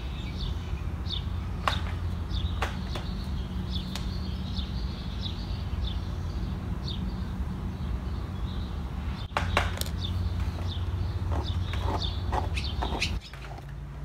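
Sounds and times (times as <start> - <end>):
bird chirping: 0.0 - 13.6.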